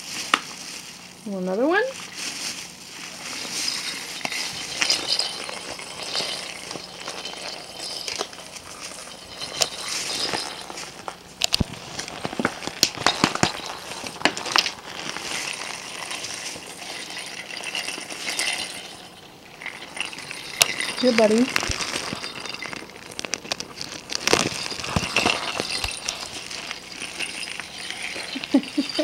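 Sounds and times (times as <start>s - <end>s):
plastic bag crinkling and rustling: 0.0s - 29.0s
plastic toy balls clicking and rattling: 3.5s - 29.0s.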